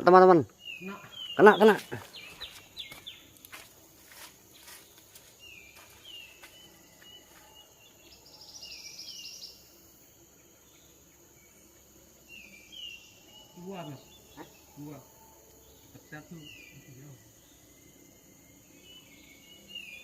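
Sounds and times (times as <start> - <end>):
dry insect trill: 0.0 - 20.0.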